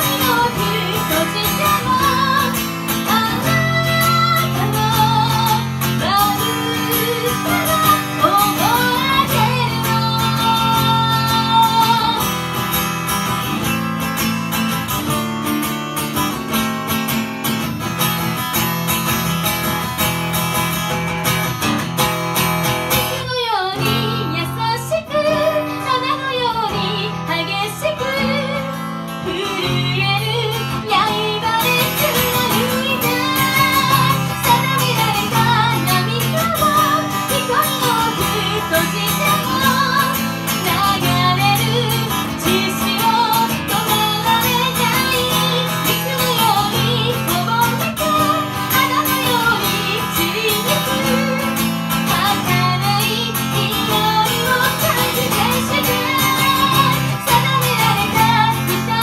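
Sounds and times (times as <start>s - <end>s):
woman singing into microphone: 0.0s - 12.7s, 22.9s - 59.0s
acoustic guitar: 0.0s - 59.0s.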